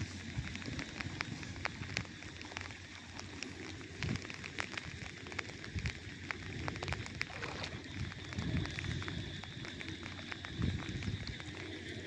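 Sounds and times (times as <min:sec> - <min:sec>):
light rain pattering: 0:00.0 - 0:12.0
wind buffeting: 0:00.0 - 0:12.0.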